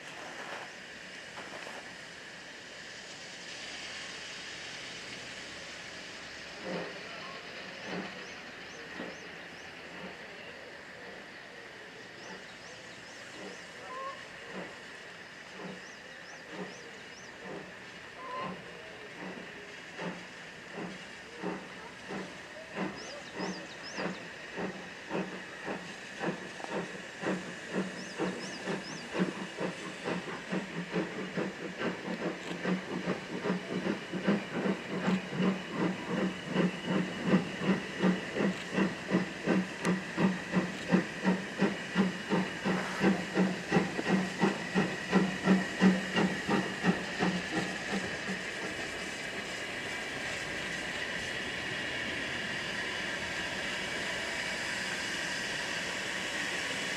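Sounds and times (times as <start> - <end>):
steam hissing: 0.0 - 56.9
steam locomotive chuffing: 0.0 - 56.9.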